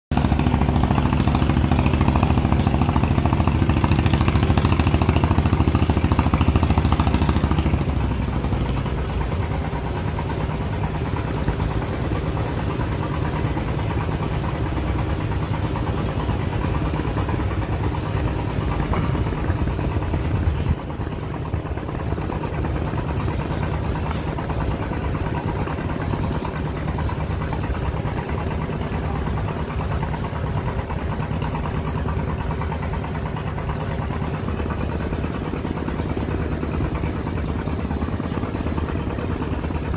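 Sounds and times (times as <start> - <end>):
motorboat engine running: 0.1 - 39.9.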